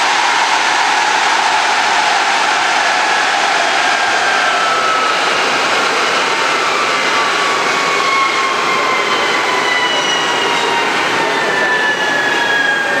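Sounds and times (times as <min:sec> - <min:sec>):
jet engines rushing: 0:00.0 - 0:12.8.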